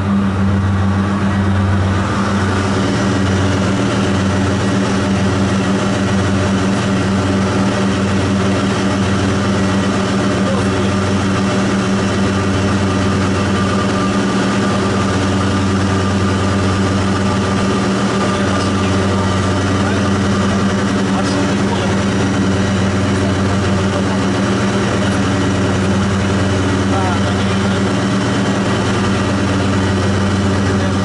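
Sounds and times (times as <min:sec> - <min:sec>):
light aircraft engine drone: 0:00.0 - 0:31.0.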